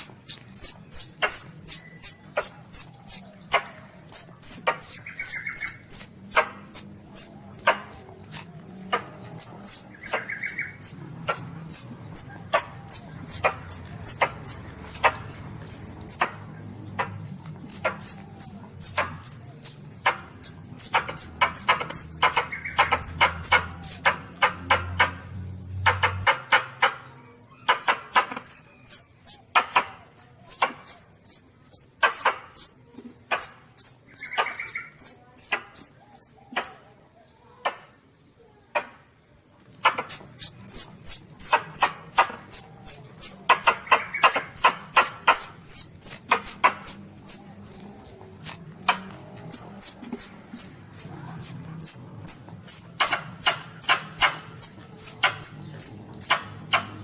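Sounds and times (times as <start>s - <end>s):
animal squeaking and chirping: 0.0s - 25.3s, 27.5s - 36.8s, 39.7s - 57.0s.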